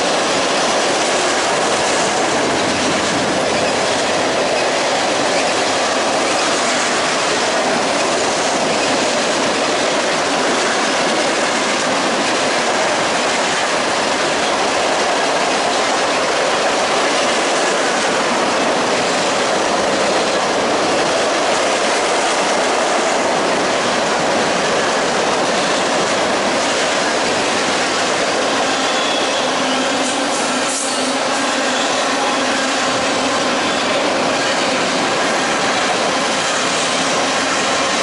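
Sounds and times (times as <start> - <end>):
train wheels rolling on track: 0.0 - 38.0.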